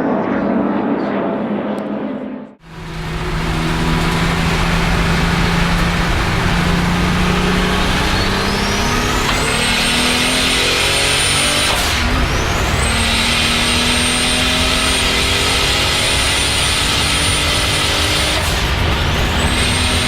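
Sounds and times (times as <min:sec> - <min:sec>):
turbocharged engine running hard: 0:02.6 - 0:20.0.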